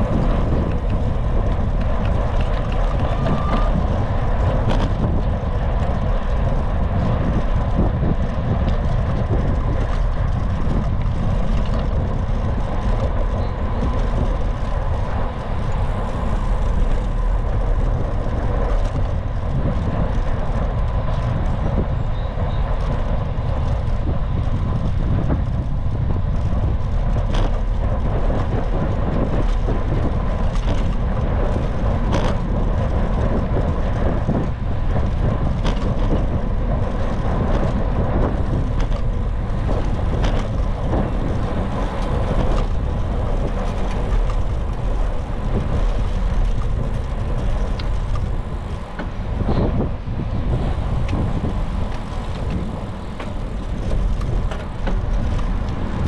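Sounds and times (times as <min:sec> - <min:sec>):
road noise: 0:00.0 - 0:56.0
wind buffeting microphone: 0:00.0 - 0:56.0.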